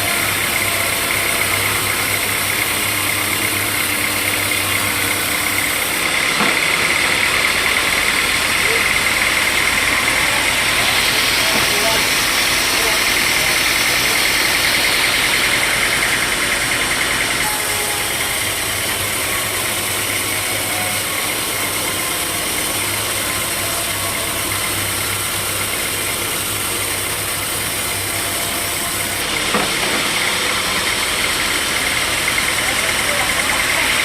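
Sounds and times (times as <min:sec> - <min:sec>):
sawmill saw and motor running: 0:00.0 - 0:34.0.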